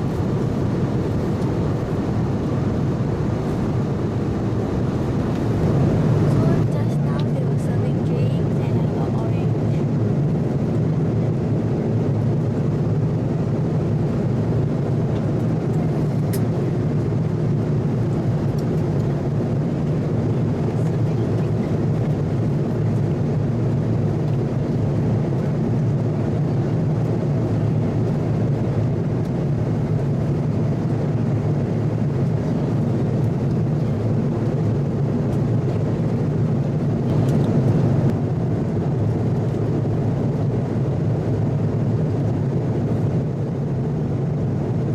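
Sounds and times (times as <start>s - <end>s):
aircraft cabin engine hum: 0.0s - 44.9s.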